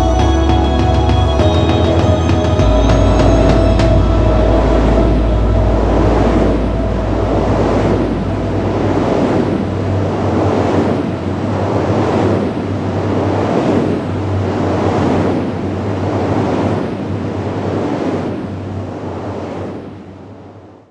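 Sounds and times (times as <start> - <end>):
steady low hum: 0.0 - 20.9
wind turbine blades whooshing: 1.0 - 20.7.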